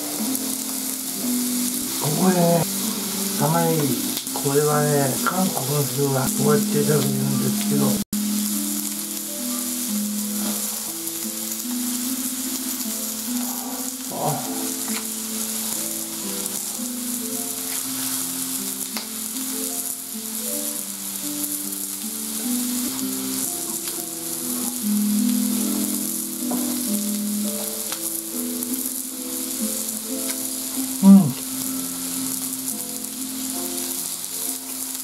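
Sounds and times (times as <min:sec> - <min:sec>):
meat sizzling on a grill: 0:00.0 - 0:35.0
soft background music: 0:00.0 - 0:35.0.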